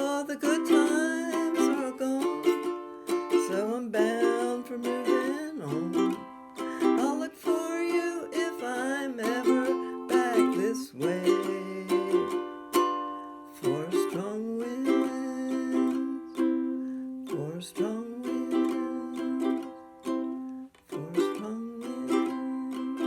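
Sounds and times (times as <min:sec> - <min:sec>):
person singing: 0:00.0 - 0:23.0
ukulele strumming chords: 0:00.0 - 0:23.0.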